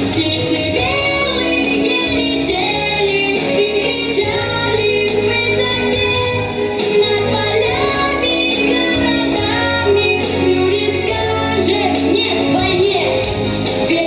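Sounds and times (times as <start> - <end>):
person singing with vibrato: 0.0 - 14.0.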